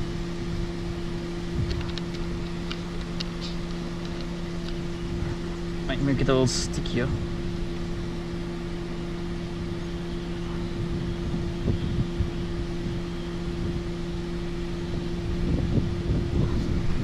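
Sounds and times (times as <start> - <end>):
wind rumble on microphone: 0.0 - 5.8, 6.7 - 17.0
mechanical hum: 0.0 - 17.0.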